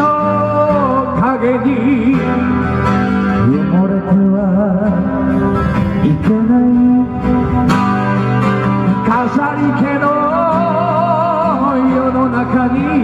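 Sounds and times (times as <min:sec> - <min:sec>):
guitar accompaniment: 0:00.0 - 0:13.0
man singing with vibrato: 0:00.0 - 0:13.0.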